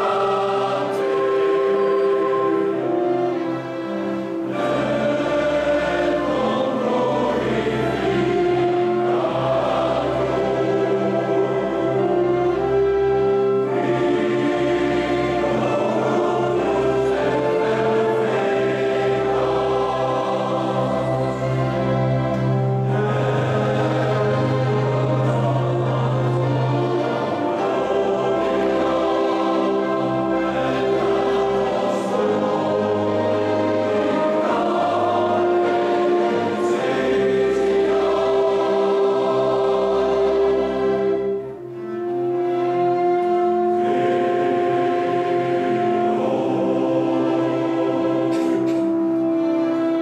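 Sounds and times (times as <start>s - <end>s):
men's choir singing: 0.0s - 50.0s.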